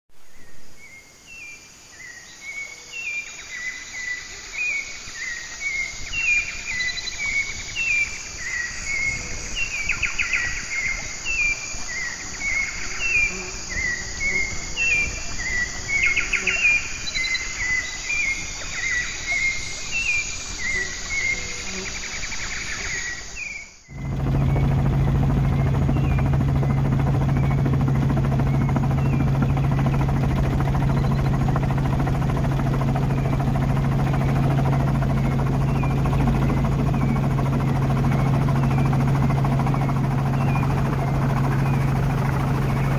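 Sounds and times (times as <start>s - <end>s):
aircraft engine drone in cabin: 0.2s - 42.9s
birds chirping: 0.3s - 42.9s.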